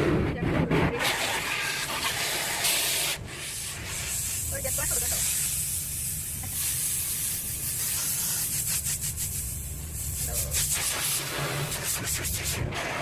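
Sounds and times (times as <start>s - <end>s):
high-pressure water jets hissing: 0.9s - 13.0s
spray beating on car panels: 1.0s - 13.0s.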